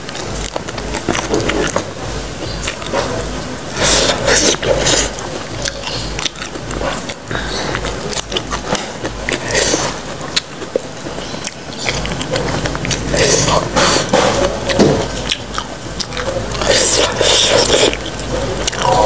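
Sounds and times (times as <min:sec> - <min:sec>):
biting and wet chewing: 0:00.0 - 0:19.0
mouth clicks: 0:00.0 - 0:19.0.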